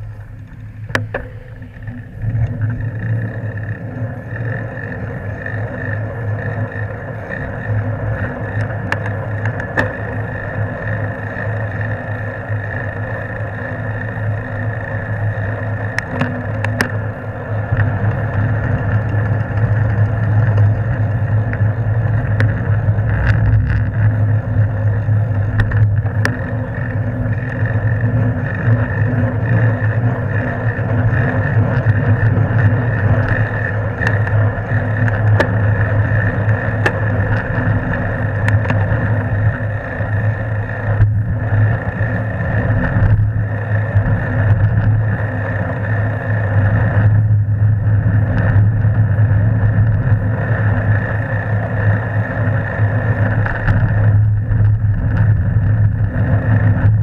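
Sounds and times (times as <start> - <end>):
constant low hum: 0.0 - 57.0
road rumble: 0.0 - 57.0
wind: 0.0 - 57.0
light ticks from bike frame: 0.1 - 47.3, 47.9 - 57.0.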